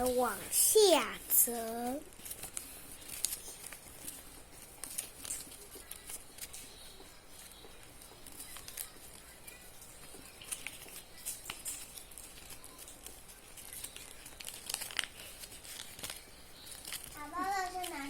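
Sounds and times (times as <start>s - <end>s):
paper being folded: 0.0s - 18.0s.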